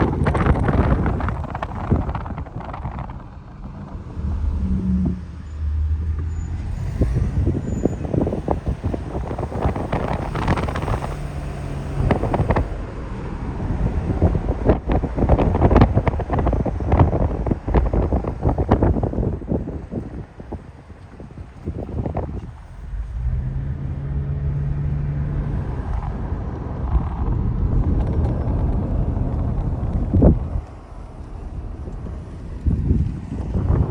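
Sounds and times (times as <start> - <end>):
vehicle engine humming: 0.0 - 33.9
wind buffeting microphone: 0.0 - 33.9.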